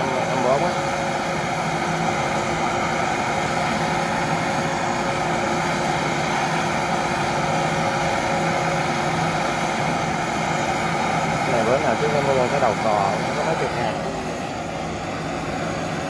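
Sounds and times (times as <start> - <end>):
torch flame hissing: 0.0 - 16.0.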